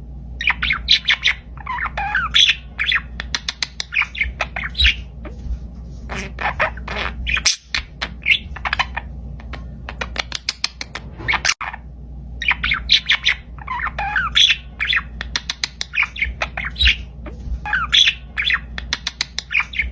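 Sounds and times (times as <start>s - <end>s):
parakeet chirping and squawking: 0.4s - 19.9s.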